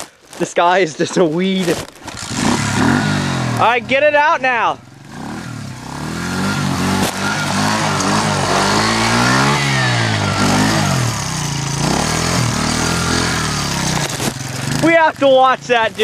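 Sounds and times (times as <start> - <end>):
dirt bike engine revving: 1.7 - 16.0.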